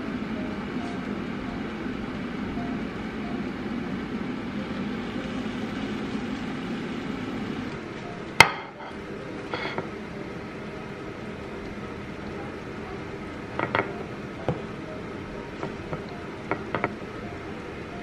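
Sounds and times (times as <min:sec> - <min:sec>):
air fryer fan whirring: 0:00.0 - 0:18.0.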